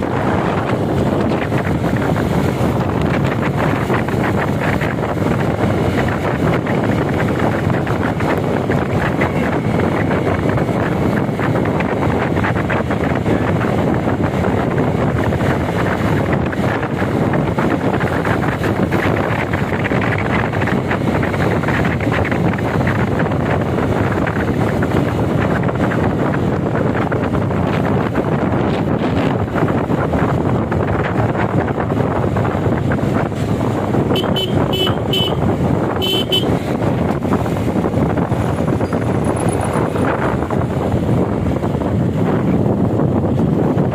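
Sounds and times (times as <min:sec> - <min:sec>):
motorcycle engine and road noise: 0:00.0 - 0:43.9
wind buffeting microphone: 0:00.0 - 0:43.9.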